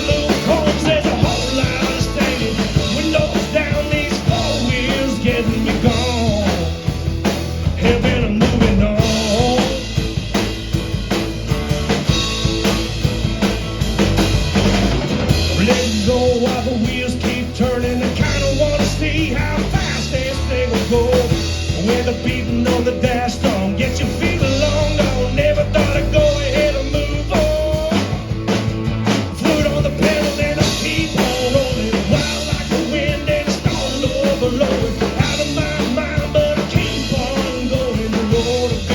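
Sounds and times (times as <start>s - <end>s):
drum kit beat: 0.0s - 38.9s.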